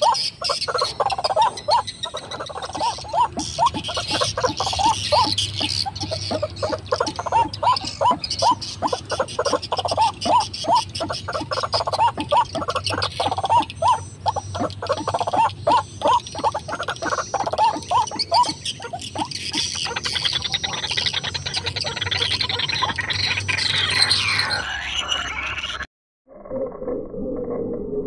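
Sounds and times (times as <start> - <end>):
bird chattering: 0.0 - 25.8
waterhen calling: 0.0 - 25.8.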